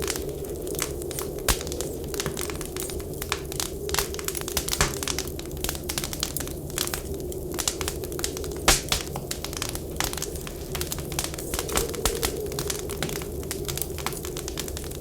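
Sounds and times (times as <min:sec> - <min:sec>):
low whistling wind: 0:00.0 - 0:15.0
wood fire crackling: 0:00.0 - 0:15.0.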